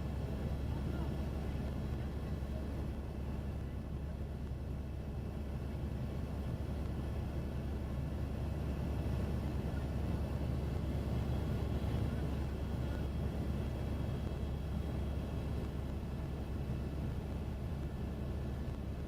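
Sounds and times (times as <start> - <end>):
helicopter rotor and engine drone: 0.0 - 19.0.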